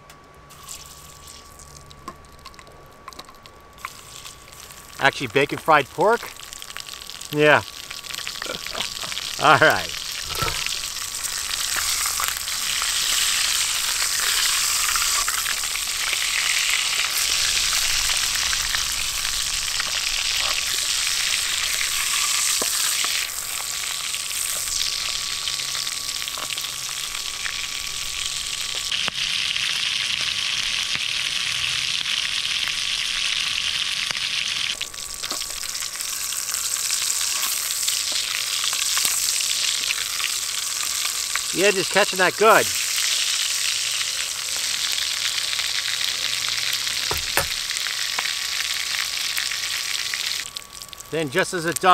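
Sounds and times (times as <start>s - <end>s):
pork sizzling in a frying pan: 0.5s - 51.9s.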